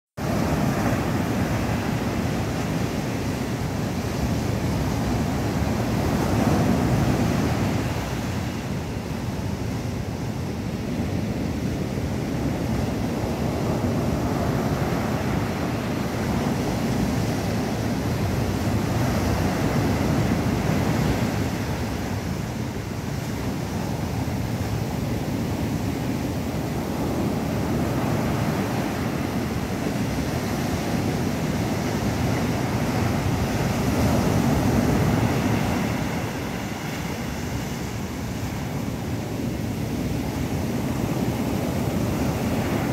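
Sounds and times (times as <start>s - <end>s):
ocean surf breaking on rocks: 0.2s - 42.9s.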